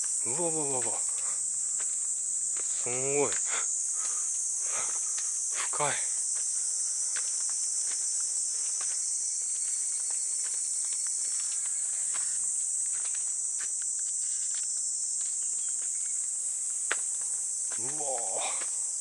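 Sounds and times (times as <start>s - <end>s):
cicadas chorus: 0.0s - 19.0s
footsteps on stone path: 0.0s - 19.0s.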